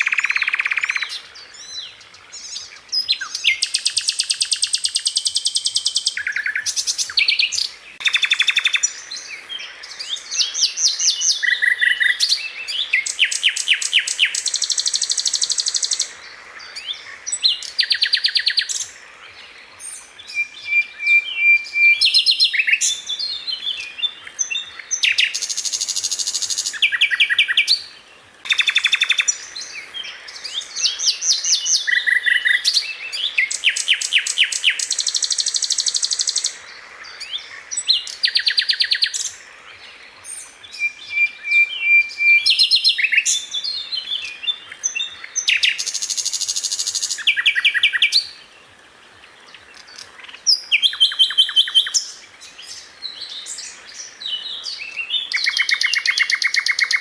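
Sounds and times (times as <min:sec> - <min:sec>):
flycatcher singing trills: 0:00.0 - 0:48.5, 0:49.6 - 0:57.0.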